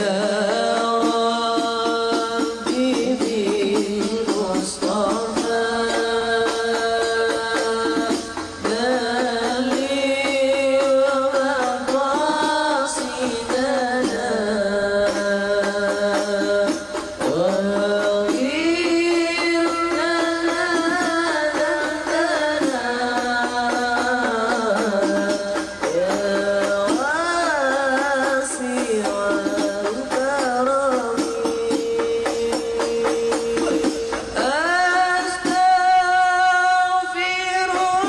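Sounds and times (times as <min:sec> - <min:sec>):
steady beat: 0:00.0 - 0:38.0.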